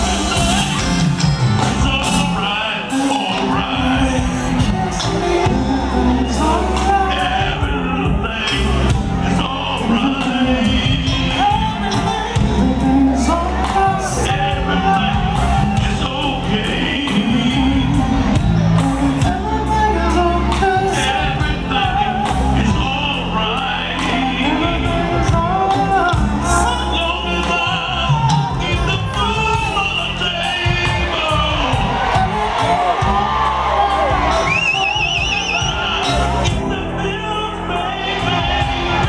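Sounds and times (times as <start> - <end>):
male vocal group singing: 0.0 - 1.0, 1.6 - 39.0
live band playing: 0.0 - 39.0.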